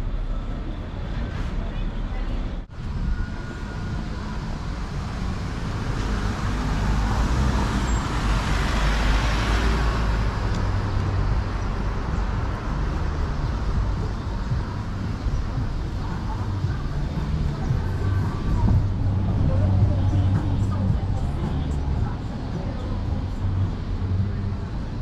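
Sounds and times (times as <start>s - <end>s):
low rumble of city traffic: 0.0s - 25.0s.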